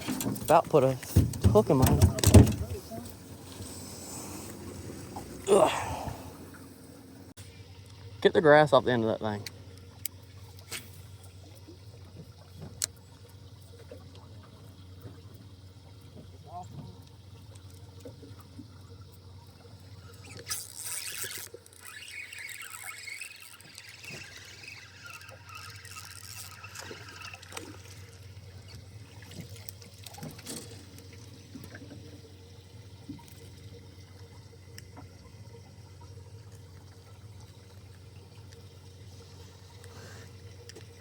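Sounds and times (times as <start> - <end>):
water splashing and trickling: 0.0 - 41.0.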